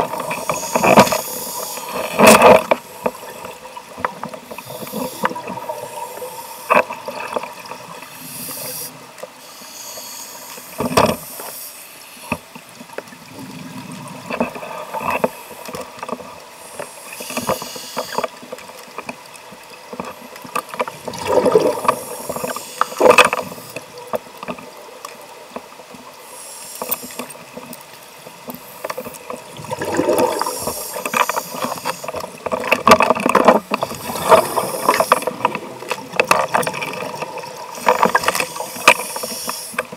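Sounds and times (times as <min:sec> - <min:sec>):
underwater bubbles gurgling: 0:00.0 - 0:09.4, 0:12.2 - 0:39.9.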